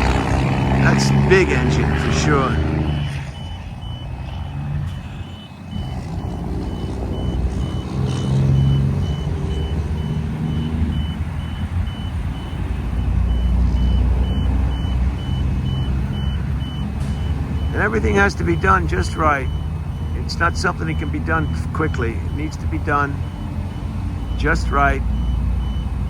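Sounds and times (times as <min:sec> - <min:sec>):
truck engine running: 0:00.0 - 0:26.0
reversing alarm beeping: 0:00.8 - 0:26.0.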